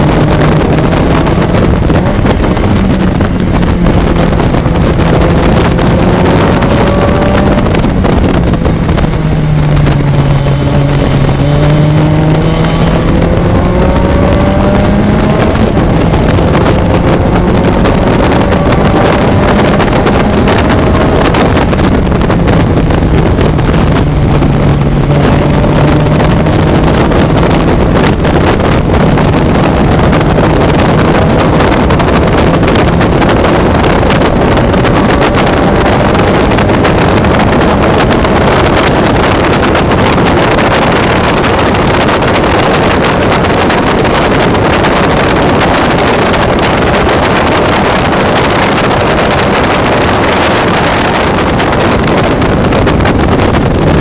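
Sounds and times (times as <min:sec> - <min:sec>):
race car engine running hard: 0:00.0 - 0:54.0
wind rush on microphone: 0:00.0 - 0:54.0.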